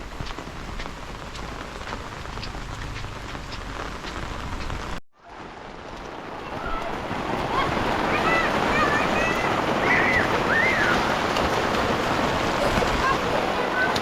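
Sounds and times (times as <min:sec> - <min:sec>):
heavy rain: 0:00.0 - 0:14.0
raindrops tapping close by: 0:00.0 - 0:14.0.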